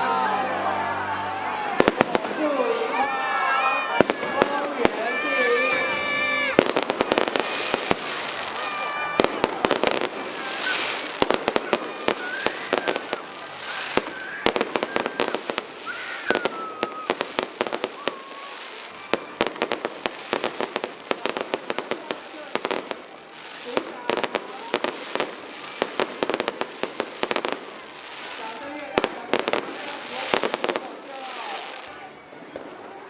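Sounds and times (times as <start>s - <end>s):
fireworks bangs and crackles: 1.5s - 33.0s.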